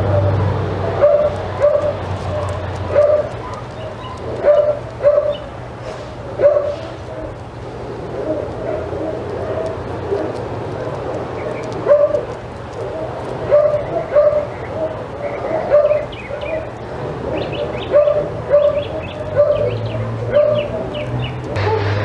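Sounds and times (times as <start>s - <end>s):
dog barking: 0.0s - 5.5s, 6.1s - 22.0s
birds chirping faintly: 1.0s - 21.6s.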